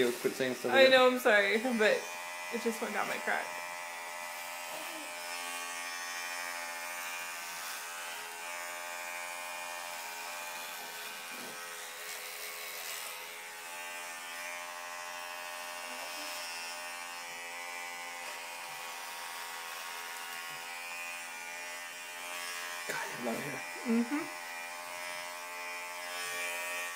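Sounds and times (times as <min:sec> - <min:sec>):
electric hair clippers buzzing: 0:00.0 - 0:26.9.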